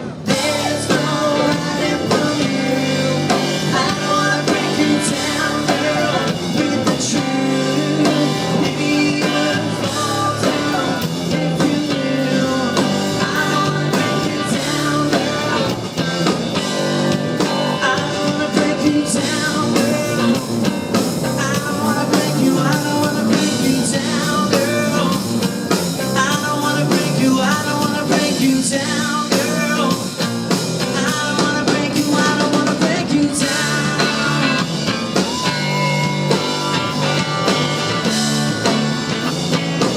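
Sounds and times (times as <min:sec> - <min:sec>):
rock song with drums and guitars: 0:00.0 - 0:39.9.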